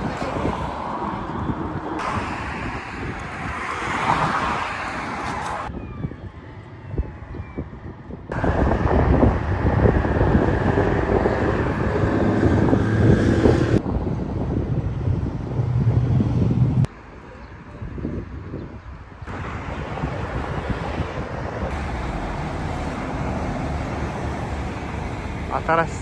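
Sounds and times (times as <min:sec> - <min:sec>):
wind on microphone: 0:00.0 - 0:25.5
road traffic: 0:00.0 - 0:26.0.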